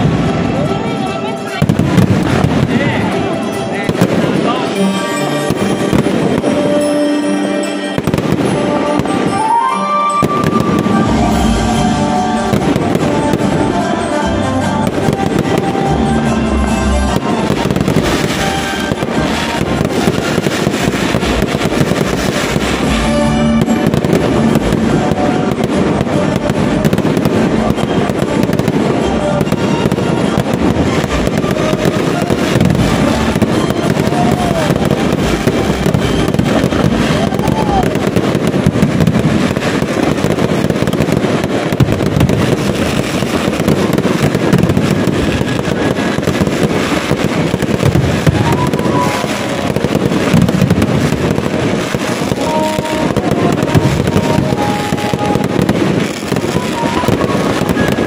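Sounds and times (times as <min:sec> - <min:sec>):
fireworks bursting and crackling: 0:00.0 - 0:58.0
music playing: 0:00.0 - 0:58.0.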